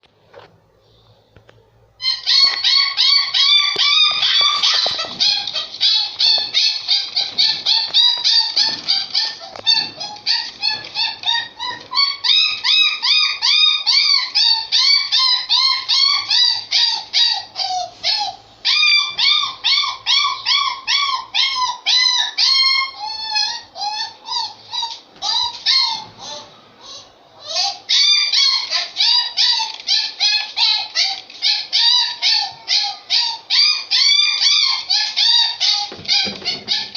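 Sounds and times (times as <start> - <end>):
dog whimpering and yipping: 2.0 - 36.9.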